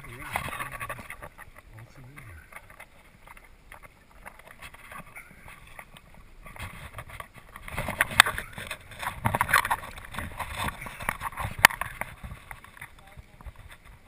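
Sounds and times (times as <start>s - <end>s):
river water splashing: 0.0s - 14.0s.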